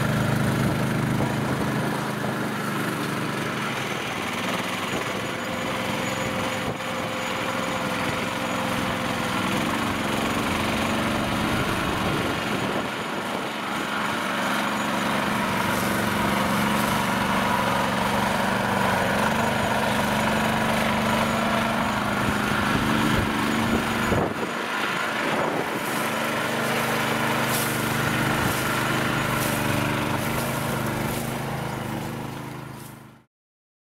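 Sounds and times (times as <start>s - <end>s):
off-road vehicle engine running: 0.0s - 33.3s.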